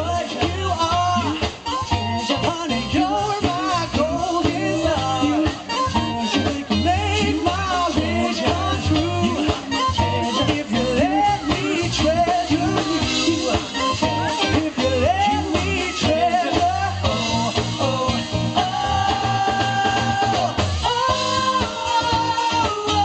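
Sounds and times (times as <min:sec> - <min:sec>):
live band playing pop-funk: 0:00.0 - 0:23.0.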